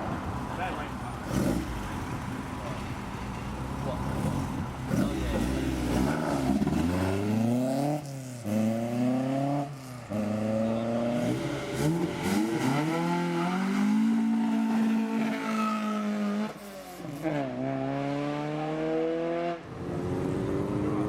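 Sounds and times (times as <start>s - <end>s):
car engine revving: 0.6s - 2.8s, 3.6s - 21.0s.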